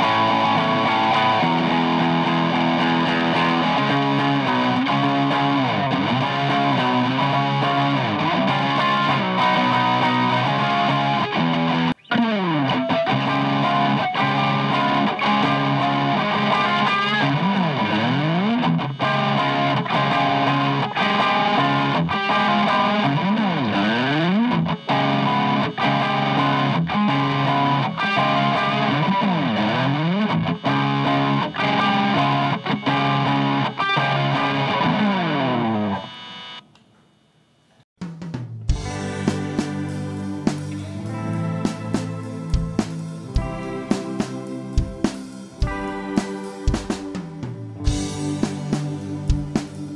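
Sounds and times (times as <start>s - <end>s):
distorted electric guitar: 0.0s - 37.2s, 38.6s - 49.9s.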